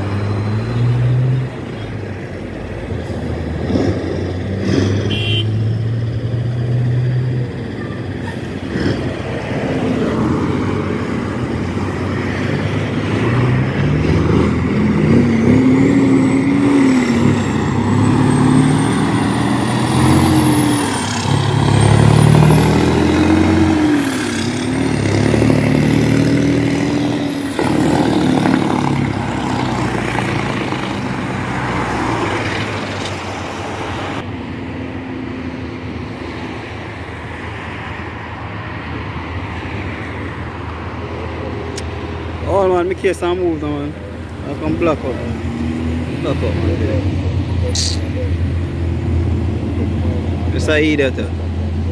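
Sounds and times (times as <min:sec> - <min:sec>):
diesel truck accelerating: 0:00.0 - 0:51.9.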